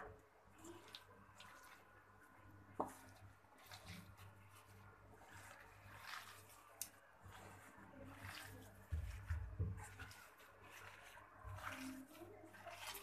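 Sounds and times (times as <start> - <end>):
cabbage squishing as kneaded by hand: 0.0 - 13.0.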